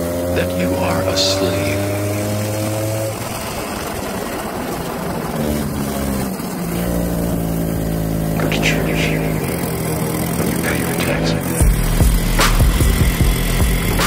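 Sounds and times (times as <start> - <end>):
go-kart engine: 0.0 - 14.0
rushing noise: 0.8 - 14.0.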